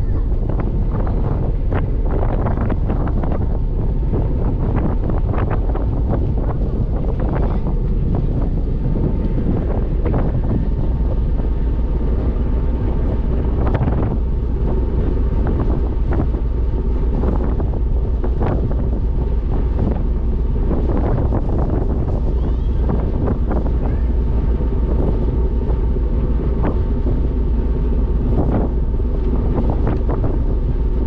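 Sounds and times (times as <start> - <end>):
ferry engine drone: 0.0 - 31.0
wind buffeting microphone: 0.0 - 31.0.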